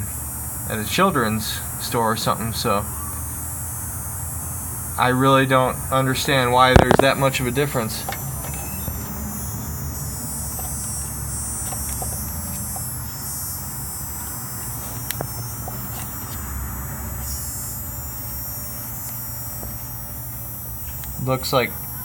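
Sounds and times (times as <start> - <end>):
high-pitched electrical whine: 0.0 - 22.0.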